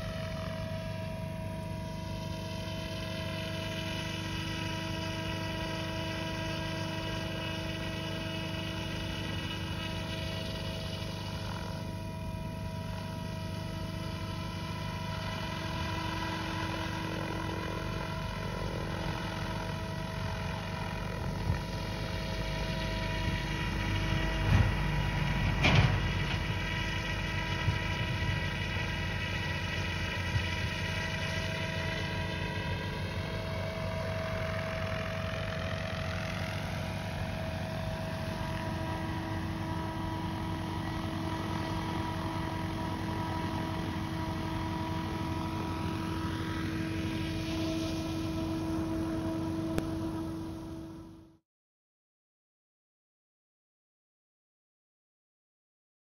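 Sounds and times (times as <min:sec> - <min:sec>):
model helicopter buzzing: 0:00.0 - 0:51.4.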